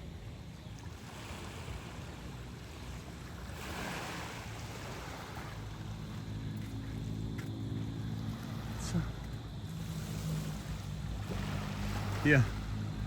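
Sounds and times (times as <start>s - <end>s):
sea waves washing on a beach: 0.0s - 13.0s
wind rumble on microphone: 0.0s - 13.0s.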